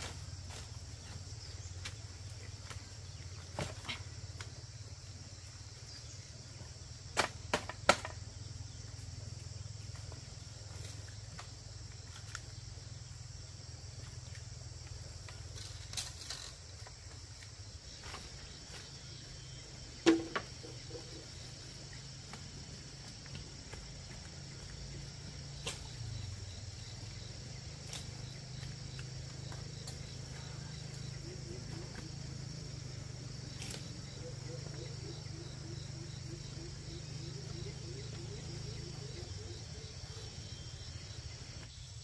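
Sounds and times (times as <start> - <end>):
insect chorus: 0.0 - 42.0.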